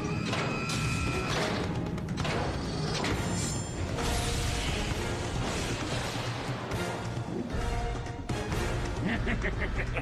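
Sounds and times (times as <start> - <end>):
action soundtrack music: 0.0 - 10.0.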